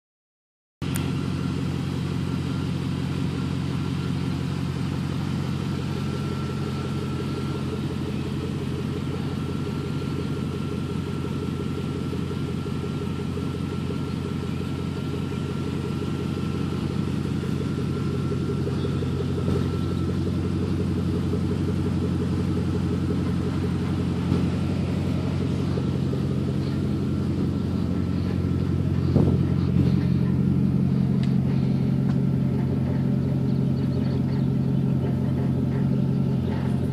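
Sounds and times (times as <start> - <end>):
car engine idling: 0.8 - 36.9.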